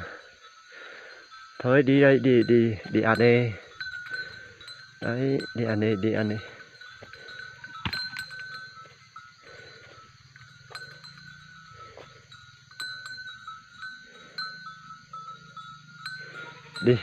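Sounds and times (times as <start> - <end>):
goat bells clanking: 0.0 - 17.0.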